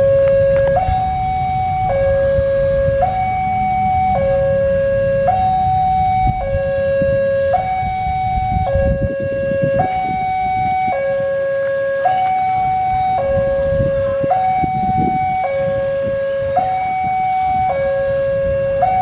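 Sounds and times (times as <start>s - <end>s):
diesel locomotive rumble: 0.0s - 19.0s
two-tone warning alarm: 0.0s - 19.0s.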